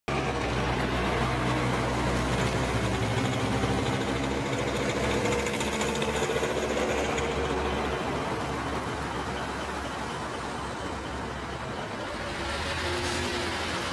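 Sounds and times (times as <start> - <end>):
vehicle engine running: 0.1 - 13.9.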